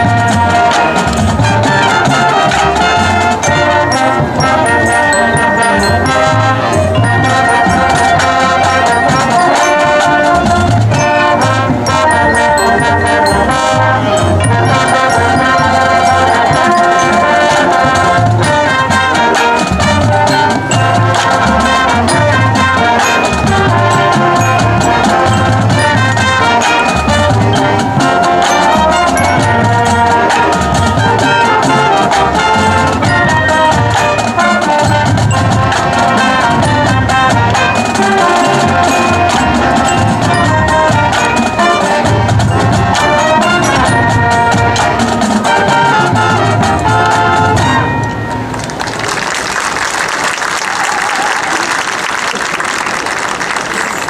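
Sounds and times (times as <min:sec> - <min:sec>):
mallet percussion: 0:00.0 - 0:49.4
sousaphones: 0:00.0 - 0:49.8
marching drums: 0:00.0 - 0:54.0
trombones: 0:00.0 - 0:54.0
trumpets: 0:00.0 - 0:54.0.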